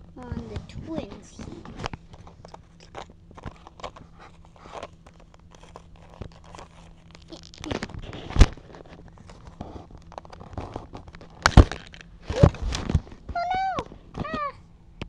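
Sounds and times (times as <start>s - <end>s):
handling rustles and clicks: 0.2s - 14.5s.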